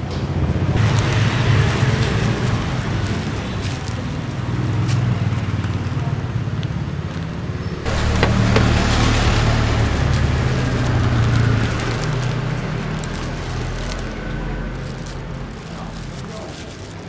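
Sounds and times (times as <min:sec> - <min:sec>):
street traffic rumble: 0:00.0 - 0:17.0
plastic bag rustling: 0:00.8 - 0:06.0, 0:06.8 - 0:17.0.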